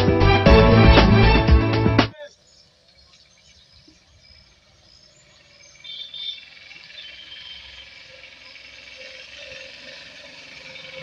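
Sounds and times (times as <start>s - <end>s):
birds chirping: 2.1s - 11.0s
high-pitched insect chorus: 2.2s - 11.0s.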